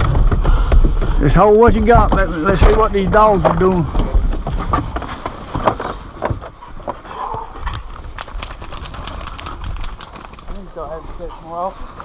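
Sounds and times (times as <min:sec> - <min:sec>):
footsteps crunching on dirt road: 0:00.0 - 0:12.0.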